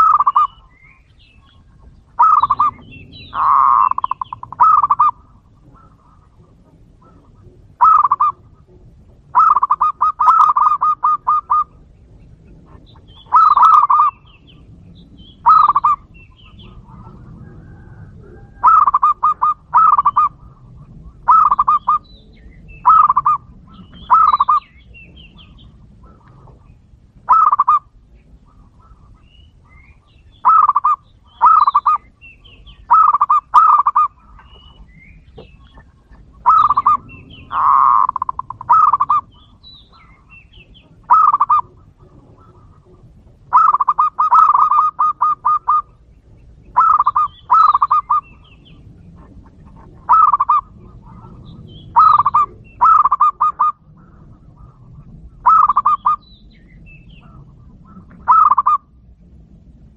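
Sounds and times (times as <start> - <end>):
faint bird chirps: 0.0 - 58.9
dove cooing: 0.0 - 59.0.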